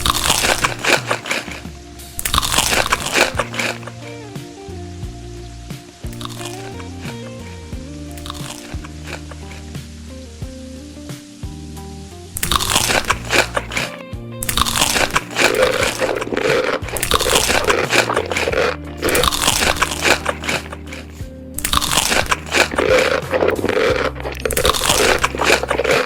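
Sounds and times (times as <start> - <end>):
background music: 0.0 - 26.0
crunching crispy food: 0.0 - 26.0.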